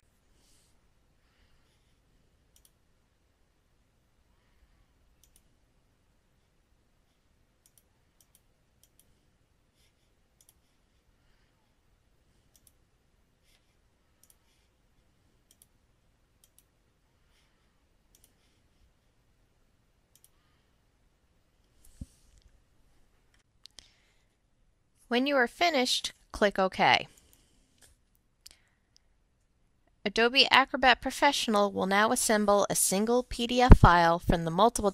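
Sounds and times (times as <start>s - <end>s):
faint room hiss: 0.0s - 34.9s.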